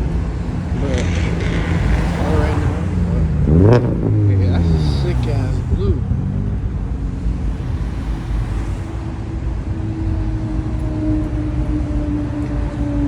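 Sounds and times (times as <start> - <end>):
car engines rumbling: 0.0 - 13.0
steady drone: 0.0 - 13.0.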